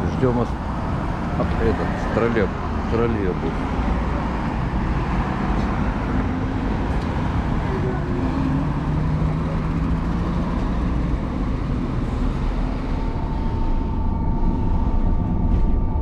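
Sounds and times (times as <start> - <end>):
cars driving past: 0.0 - 16.0
vehicle engine hum: 0.0 - 16.0.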